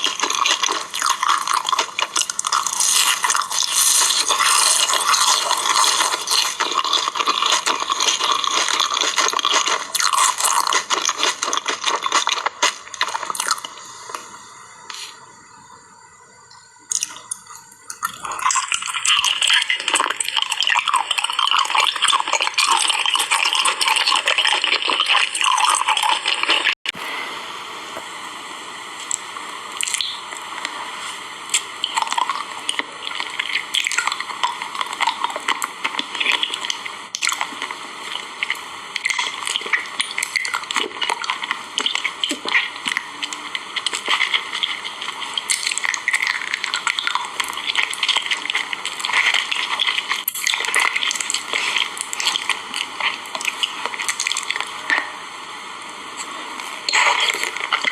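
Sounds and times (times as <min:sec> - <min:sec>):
wet squishy chewing: 0:00.0 - 0:14.2, 0:16.9 - 0:26.8, 0:31.5 - 0:55.1, 0:56.2 - 0:57.9.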